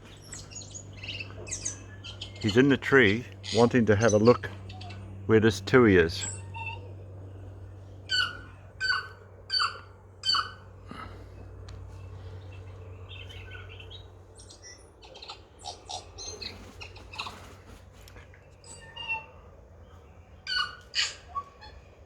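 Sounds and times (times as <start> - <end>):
bird song: 0.0 - 22.0.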